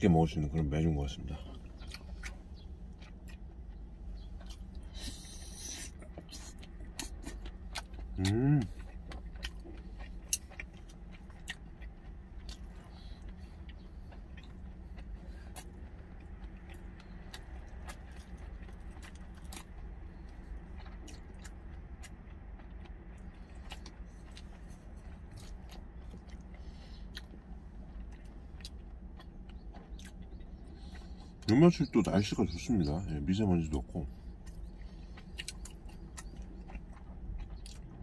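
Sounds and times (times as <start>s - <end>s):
steady low hum: 0.0s - 38.0s
chewing: 1.4s - 33.1s, 33.7s - 38.0s.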